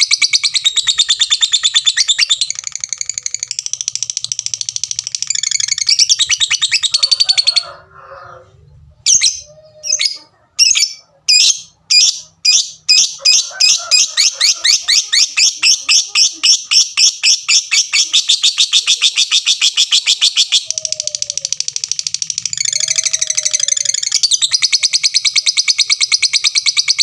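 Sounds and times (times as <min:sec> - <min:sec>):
lovebird high-pitched chattering: 0:00.0 - 0:07.7, 0:09.0 - 0:27.0.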